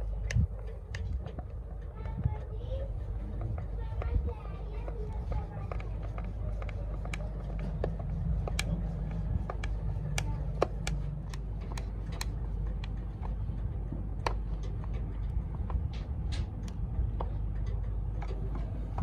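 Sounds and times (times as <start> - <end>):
sharp clicks and light taps: 0.0 - 19.0
steady low rumble: 0.0 - 19.0.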